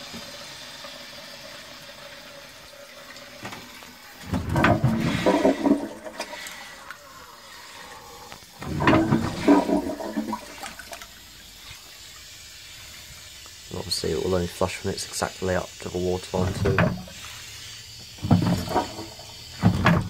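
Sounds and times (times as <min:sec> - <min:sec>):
toilet cistern flushing: 0:00.0 - 0:20.0.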